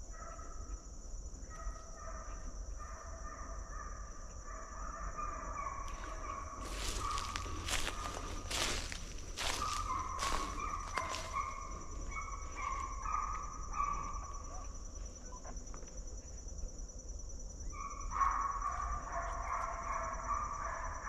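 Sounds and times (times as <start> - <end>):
high insect drone: 0.0 - 21.0
hounds baying: 1.5 - 15.6, 17.7 - 21.0.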